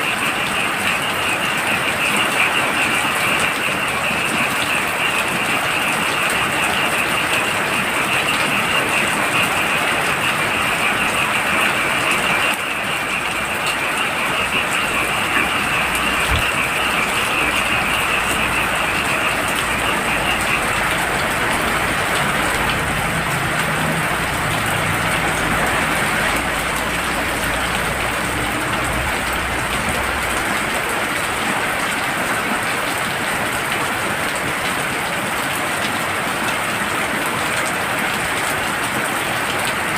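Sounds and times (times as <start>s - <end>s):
frogs calling: 0.0s - 39.9s
heavy rain: 0.0s - 39.9s.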